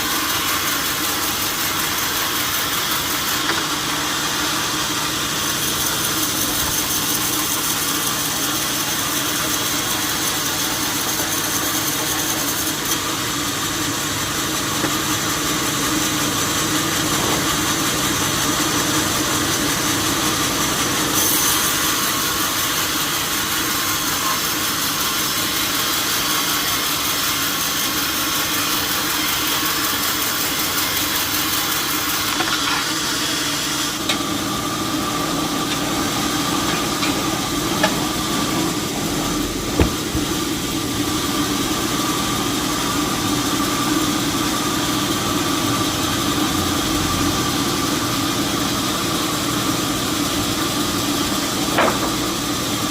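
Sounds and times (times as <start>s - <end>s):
sawmill machinery humming: 0.0s - 52.9s.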